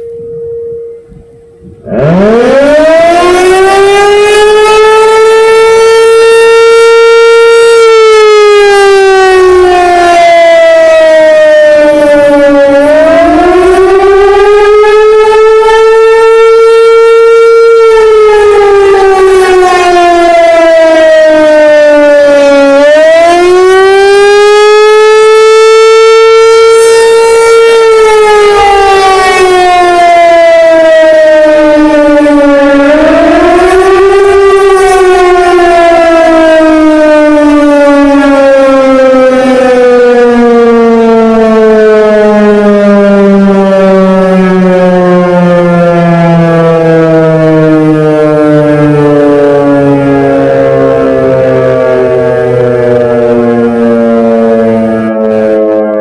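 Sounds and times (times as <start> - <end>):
outdoor warning siren winding: 0.0 - 56.0.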